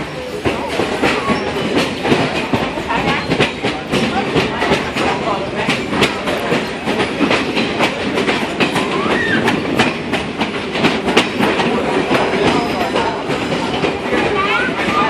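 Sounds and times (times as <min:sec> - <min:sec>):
train rumbling on track: 0:00.0 - 0:15.0
wheels clicking over rails: 0:00.0 - 0:15.0.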